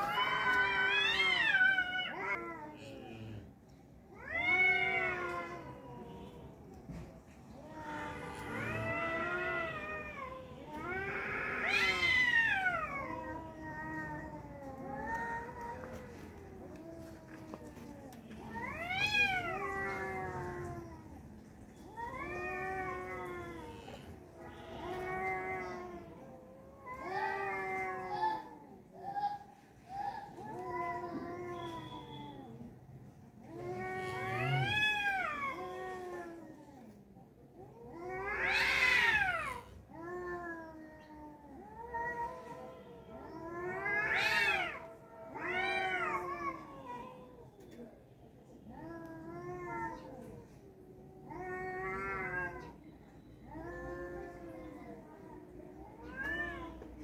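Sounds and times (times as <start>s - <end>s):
cats caterwauling: 0.0s - 57.0s.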